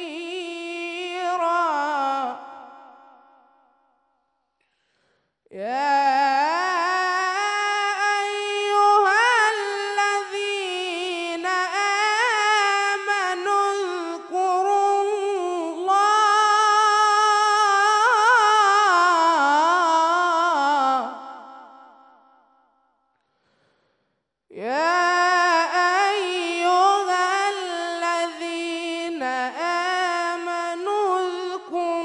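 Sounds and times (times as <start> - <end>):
person reciting melodically: 0.0 - 3.2, 5.5 - 22.1, 24.5 - 32.0.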